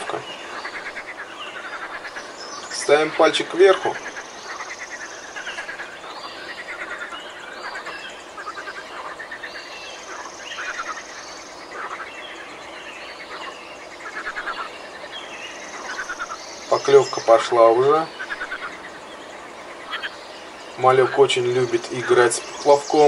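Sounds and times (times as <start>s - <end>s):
birds chirping: 0.0s - 23.0s
frogs croaking: 0.0s - 23.0s.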